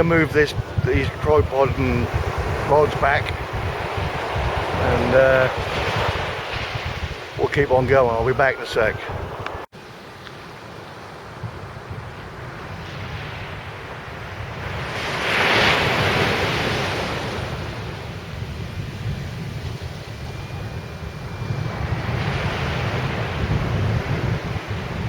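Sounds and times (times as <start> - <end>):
wind buffeting microphone: 0.0 - 9.7, 11.0 - 25.0
sea surf breaking on beach: 0.0 - 25.0.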